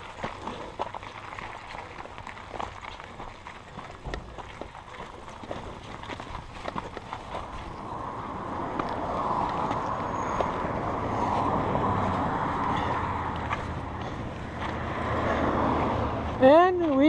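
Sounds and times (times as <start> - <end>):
bike tyres rolling: 0.0 - 17.0.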